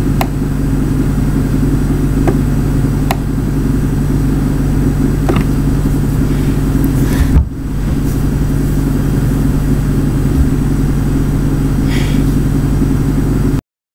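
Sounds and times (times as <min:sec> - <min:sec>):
low droning hum: 0:00.0 - 0:13.6.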